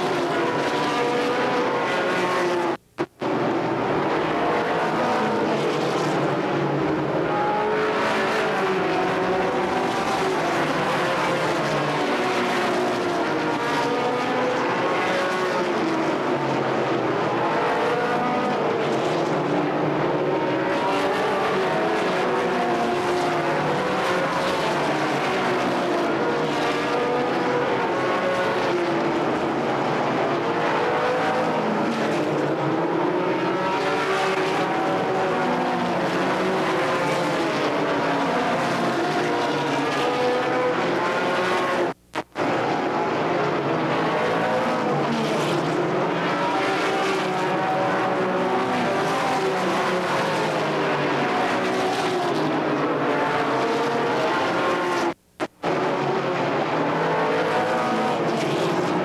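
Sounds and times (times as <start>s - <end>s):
race car engines passing: 0.0s - 59.0s.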